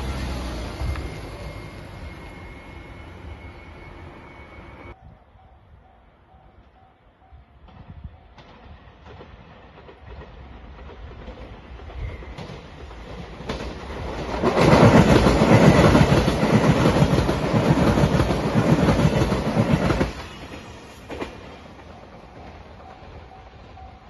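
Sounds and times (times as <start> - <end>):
train wheels rumbling on rails: 0.0 - 5.0, 6.5 - 24.0.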